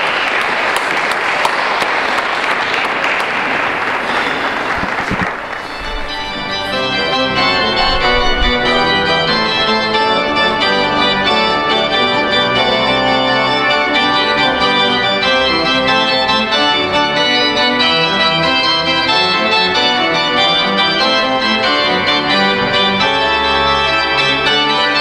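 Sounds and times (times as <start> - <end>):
pipe organ chords: 4.0 - 25.0.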